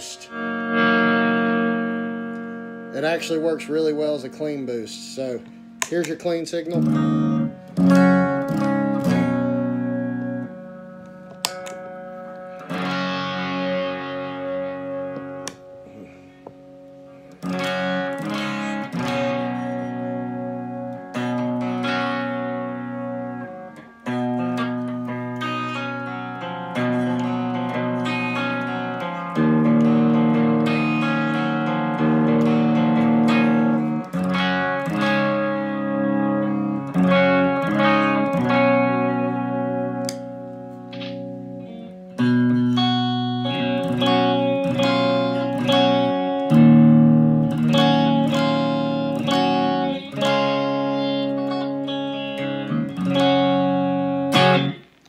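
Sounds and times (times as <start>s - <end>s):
clean electric guitar: 0.0s - 55.0s.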